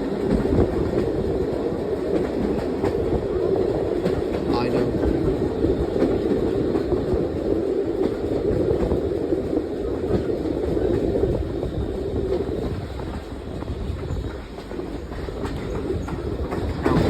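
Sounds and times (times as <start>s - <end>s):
steam locomotive exhaust beats: 0.0s - 17.0s
train running on rails: 0.0s - 17.0s.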